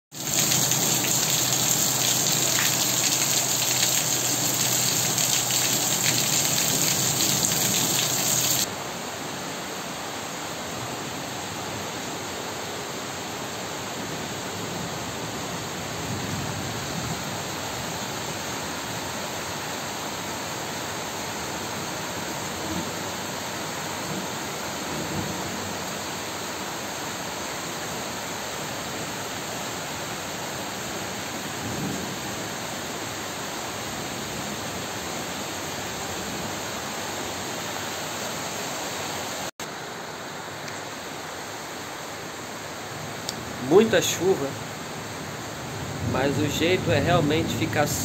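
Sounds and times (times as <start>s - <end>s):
heavy rain on pavement: 0.1s - 9.7s, 10.8s - 48.0s.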